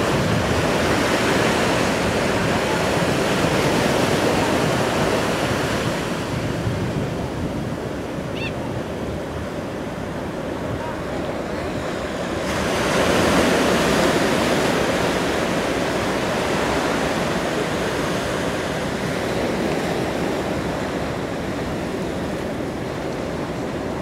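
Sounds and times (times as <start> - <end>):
churned water rushing: 0.0 - 24.0.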